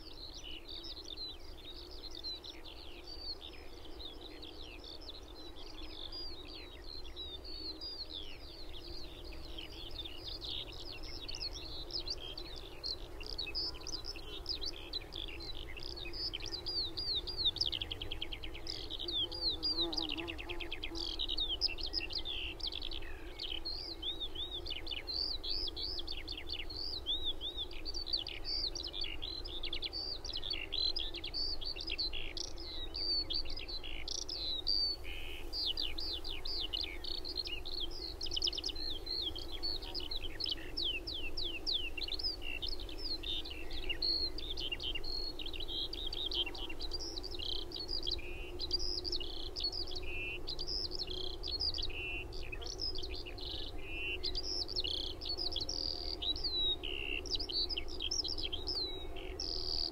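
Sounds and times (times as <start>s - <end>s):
skylarks singing: 0.0s - 59.9s.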